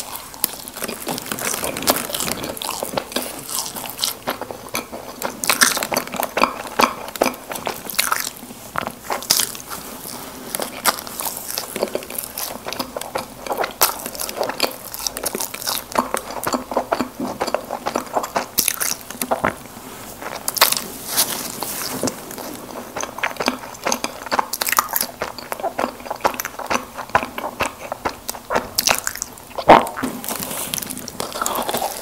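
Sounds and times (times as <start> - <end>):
chewing and biting doughnuts: 0.0 - 32.0.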